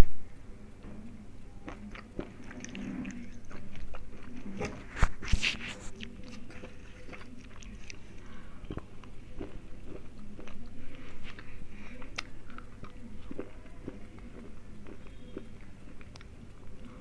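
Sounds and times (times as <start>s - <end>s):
pencil crunching being chewed: 1.7s - 17.0s.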